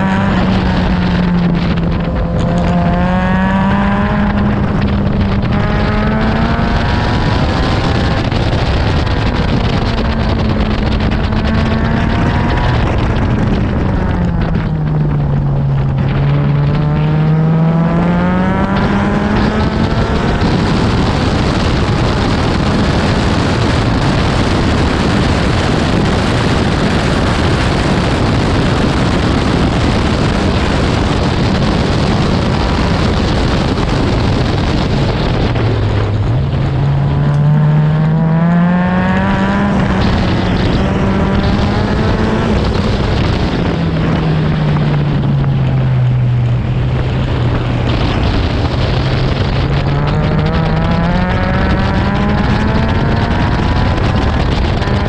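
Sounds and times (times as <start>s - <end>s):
car engine at high revs: 0.0s - 55.0s
wind and road noise: 0.0s - 55.0s.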